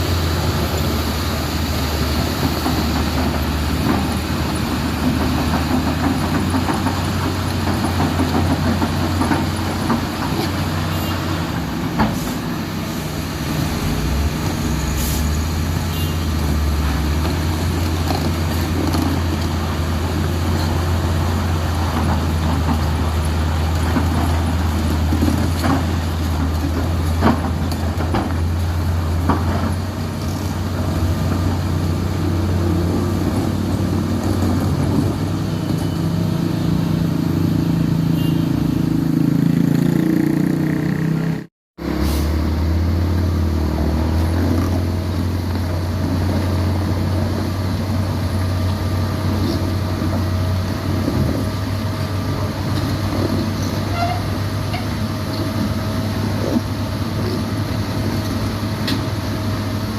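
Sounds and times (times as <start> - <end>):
heavy diesel engines droning: 0.0 - 59.9.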